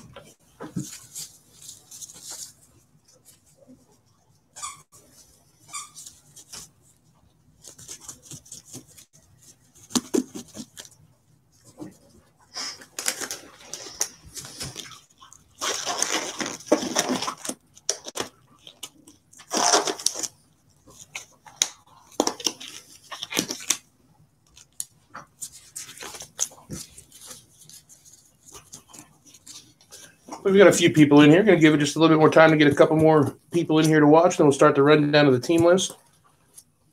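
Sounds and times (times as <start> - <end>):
rustling and crinkling: 0.0 - 36.9.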